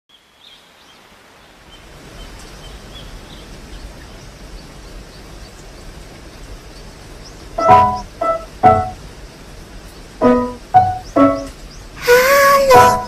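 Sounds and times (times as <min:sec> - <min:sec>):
small birds chirping: 0:00.1 - 0:13.0
steady hiss: 0:00.2 - 0:13.0.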